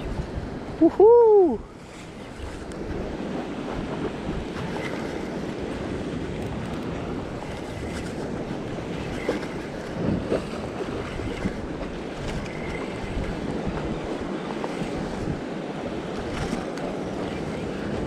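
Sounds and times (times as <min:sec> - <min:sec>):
wind buffeting microphone: 0:00.0 - 0:18.0
waves breaking on rocks: 0:01.7 - 0:18.0.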